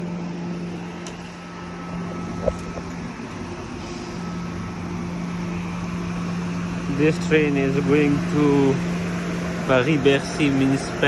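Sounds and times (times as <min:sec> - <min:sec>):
train humming at platform: 0:00.0 - 0:11.0.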